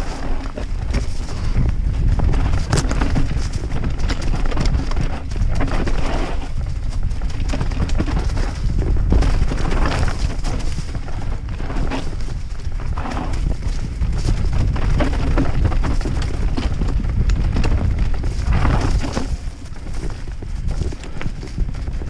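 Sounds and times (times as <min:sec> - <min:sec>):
bike tyres rolling over stones: 0:00.0 - 0:22.0
mountain bike rattling knocks: 0:00.0 - 0:22.0.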